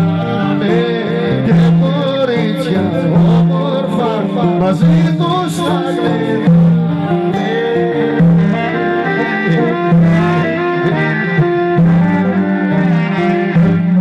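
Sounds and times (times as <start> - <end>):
folk dance band playing: 0.0 - 14.0
person singing: 0.0 - 14.0.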